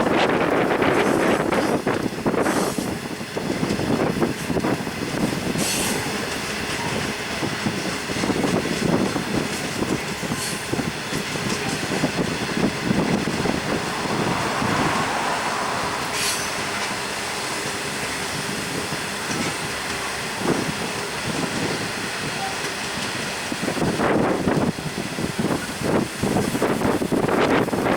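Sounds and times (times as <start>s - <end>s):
train wheels clattering on rail: 0.0s - 27.9s.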